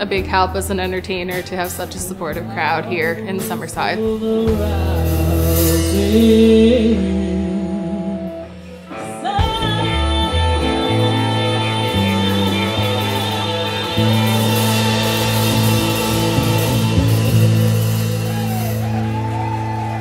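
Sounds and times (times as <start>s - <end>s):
woman singing: 0.0s - 18.3s
live band playing: 0.0s - 20.0s.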